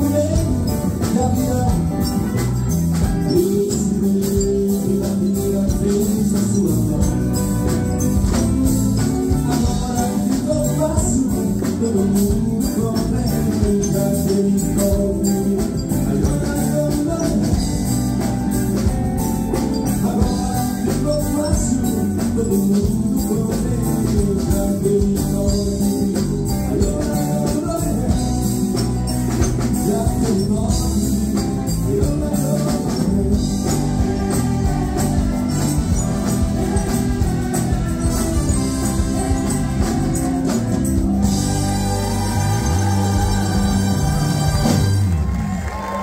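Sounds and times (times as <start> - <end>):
wind band with electric guitars: 0.0 - 46.0.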